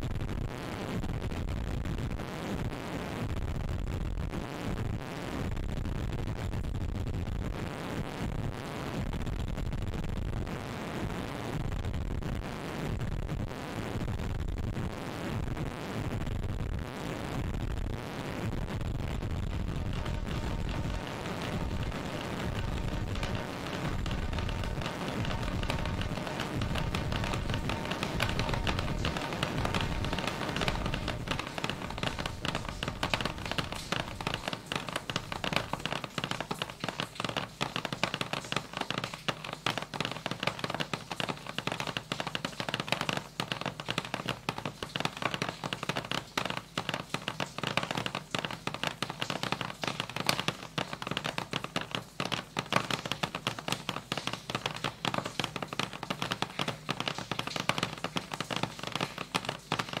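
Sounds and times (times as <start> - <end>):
crackle of rapid taps and clicks: 0.0 - 60.0.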